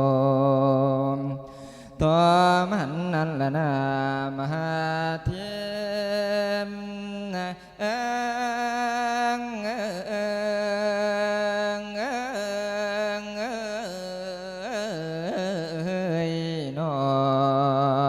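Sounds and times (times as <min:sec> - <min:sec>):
man singing a chant: 0:00.0 - 0:18.0.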